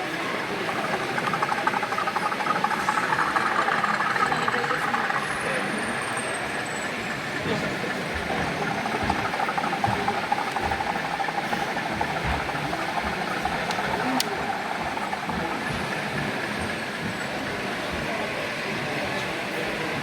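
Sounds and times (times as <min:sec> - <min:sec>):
crowd hubbub: 0:00.0 - 0:20.0
model train whine: 0:00.0 - 0:20.0.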